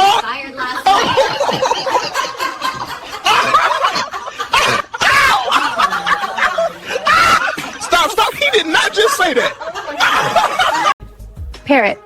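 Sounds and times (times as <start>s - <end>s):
hard laughter: 0.0s - 11.0s.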